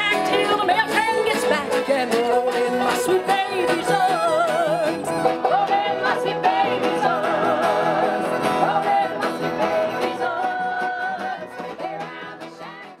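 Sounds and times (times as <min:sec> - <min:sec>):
song with voice and plucked guitar: 0:00.0 - 0:13.0.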